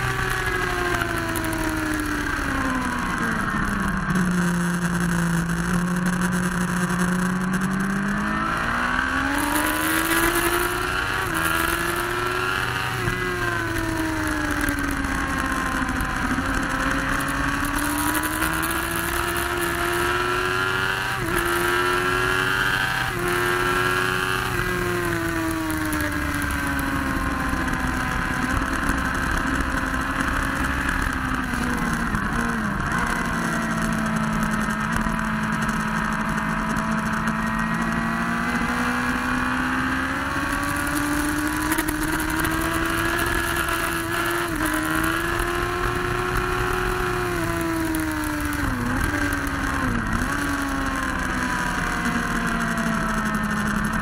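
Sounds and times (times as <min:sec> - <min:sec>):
motorcycle engine accelerating hard: 0:00.0 - 0:54.0.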